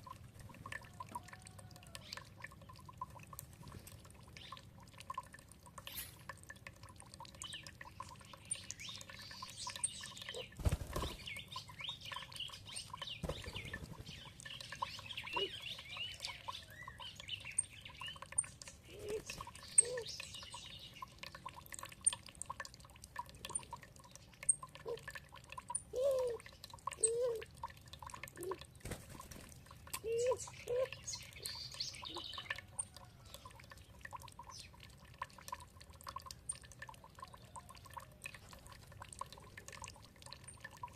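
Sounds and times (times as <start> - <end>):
songbirds chirping: 0.0 - 40.9
water dripping and trickling: 0.0 - 40.9.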